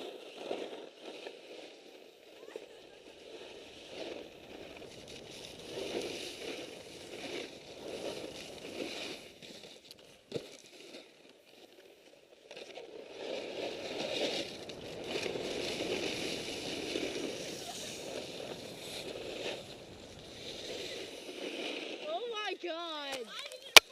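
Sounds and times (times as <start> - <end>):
skis scraping on snow: 0.0 - 23.7.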